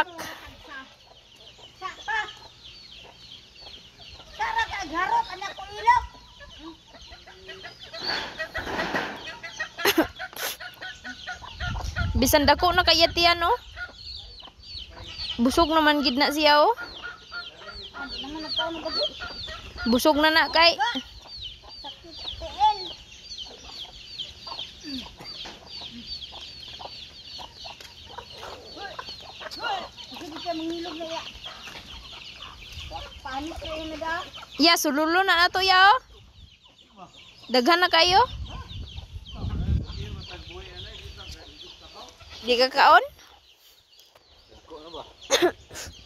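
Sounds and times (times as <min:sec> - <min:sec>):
chickens clucking: 0:00.0 - 0:46.0
chicks peeping: 0:00.0 - 0:46.0.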